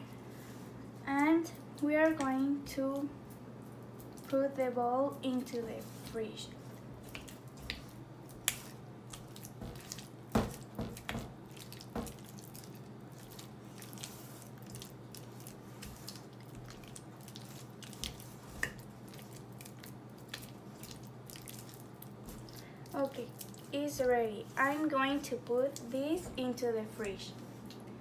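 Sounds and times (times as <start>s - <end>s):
steady low hum: 0.0s - 28.0s
spatula squishing thick mixture: 0.4s - 28.0s.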